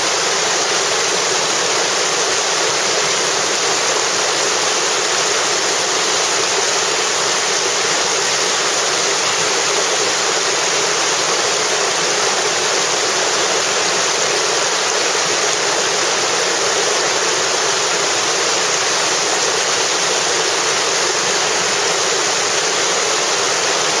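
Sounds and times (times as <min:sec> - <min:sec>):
whitewater rapids roaring: 0:00.0 - 0:24.0.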